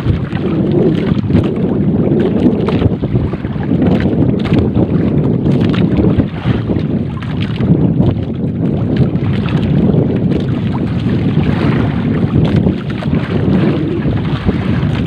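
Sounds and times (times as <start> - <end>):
water against hull: 0.0 - 15.0
wind buffeting microphone: 0.0 - 15.0.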